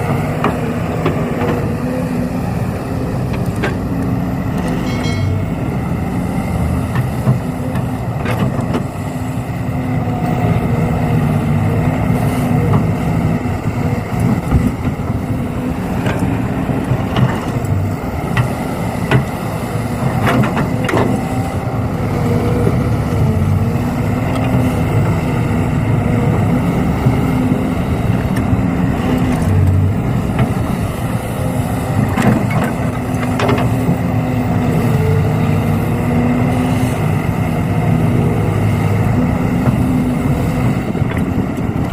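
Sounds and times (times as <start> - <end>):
steady motor drone: 0.0 - 41.9.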